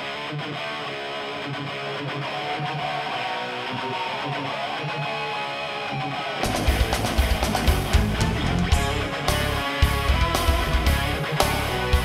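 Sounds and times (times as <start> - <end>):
picked and strummed guitar: 0.0 - 12.0.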